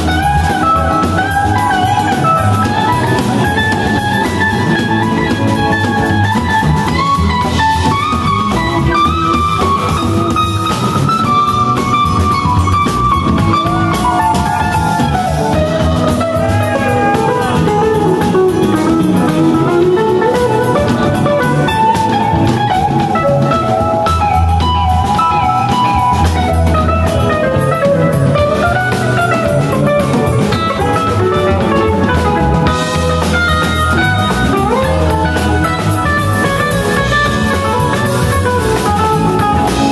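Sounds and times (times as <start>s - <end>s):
lead guitar melody: 0.0s - 39.9s
live rock band playing: 0.0s - 39.9s.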